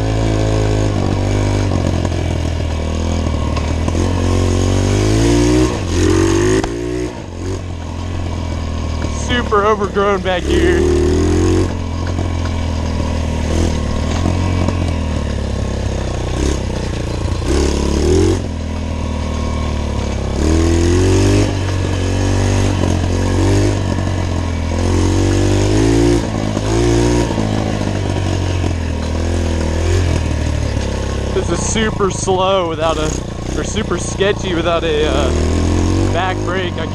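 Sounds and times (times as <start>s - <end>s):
pit bike engine revving: 0.0s - 36.9s.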